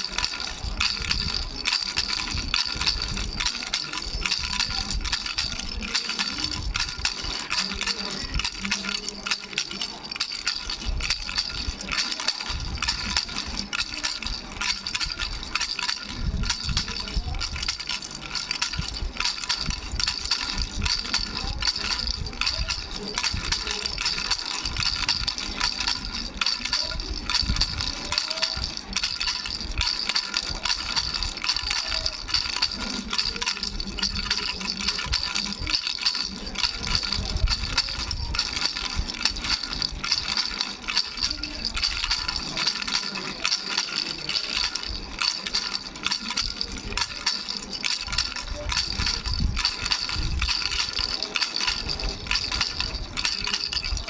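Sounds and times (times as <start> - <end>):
baby bell rattle shaken: 0.0 - 54.0.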